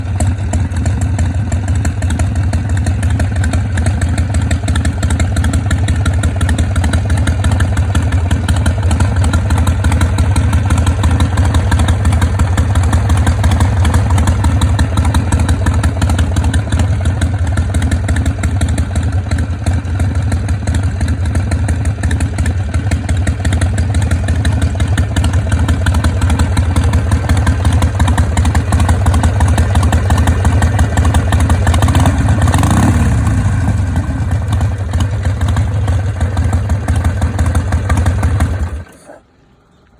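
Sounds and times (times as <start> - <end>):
motorcycle engine idling: 0.0 - 39.2.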